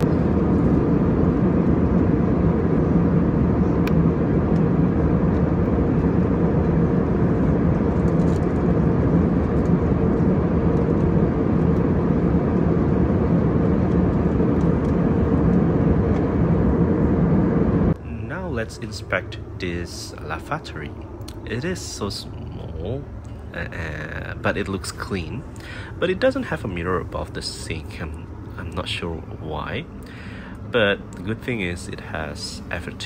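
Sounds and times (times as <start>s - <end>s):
low engine hum: 0.0s - 33.0s
rush of cabin air: 0.0s - 33.0s.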